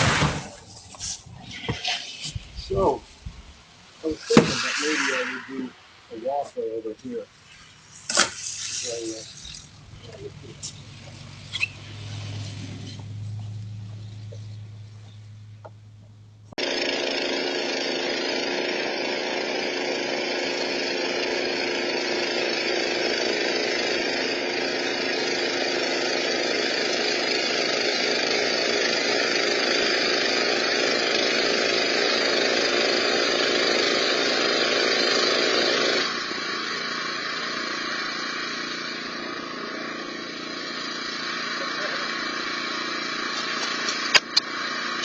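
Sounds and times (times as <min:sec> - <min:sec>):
snowblower engine drone: 0:00.0 - 0:45.0.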